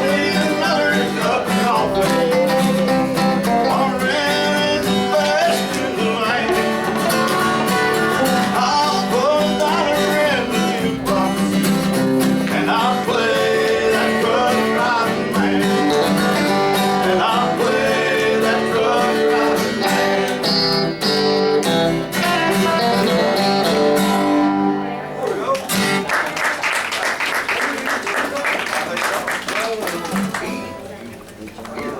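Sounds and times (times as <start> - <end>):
bending guitar lead: 0.0 - 26.0
live country band playing: 0.0 - 26.1.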